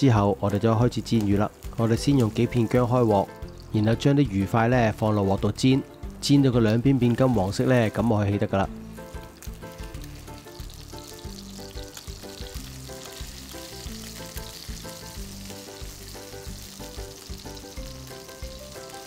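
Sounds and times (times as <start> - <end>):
oil sizzling: 0.0 - 19.0
soft background music: 0.0 - 19.0.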